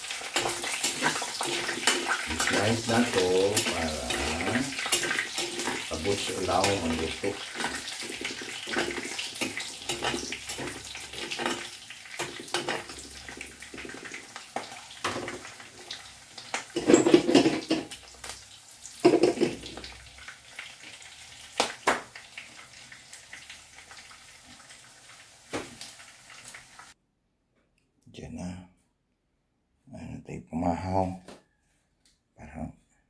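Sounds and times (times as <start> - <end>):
sausages sizzling in oil: 0.0 - 27.0.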